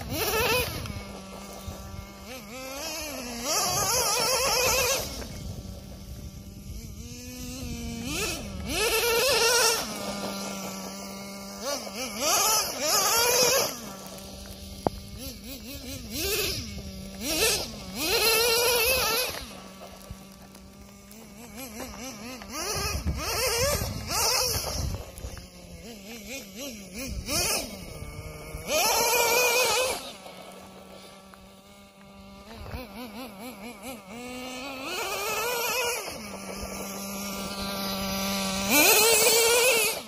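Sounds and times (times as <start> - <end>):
small engine idling and revving: 0.0 - 40.0.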